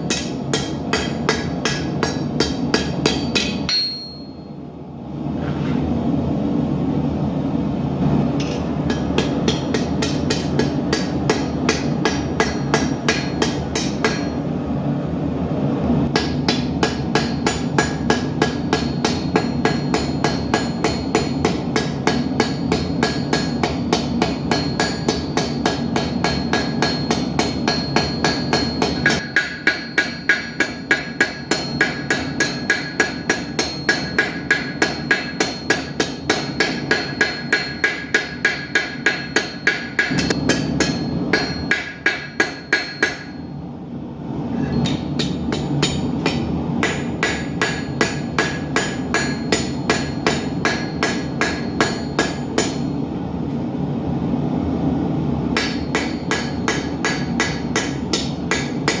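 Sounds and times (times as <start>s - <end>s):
hammer blows on anvil: 0.0s - 4.5s, 8.4s - 14.4s, 16.1s - 43.5s, 44.6s - 53.0s, 55.6s - 59.0s.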